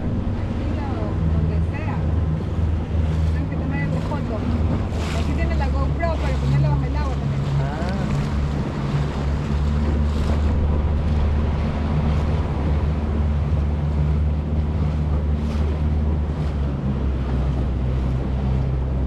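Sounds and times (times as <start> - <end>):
outboard motor running: 0.0 - 19.0
water rushing past hull: 0.0 - 19.0
wind buffeting microphone: 0.0 - 19.0.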